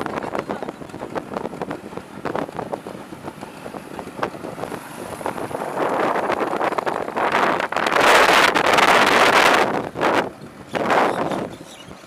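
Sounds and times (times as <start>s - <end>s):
two-stroke scooter engine running: 0.0s - 12.0s
wind noise on microphone: 0.0s - 12.0s.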